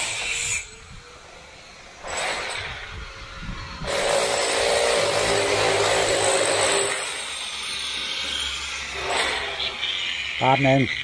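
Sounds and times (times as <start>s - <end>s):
power tool whining: 0.0s - 11.0s.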